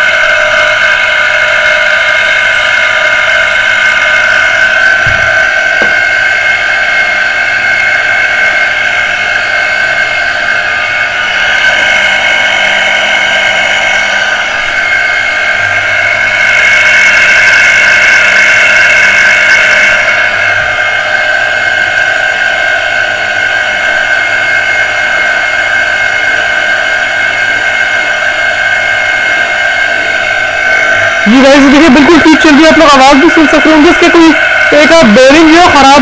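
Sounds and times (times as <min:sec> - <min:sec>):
water pump motor whining: 0:00.0 - 0:36.0.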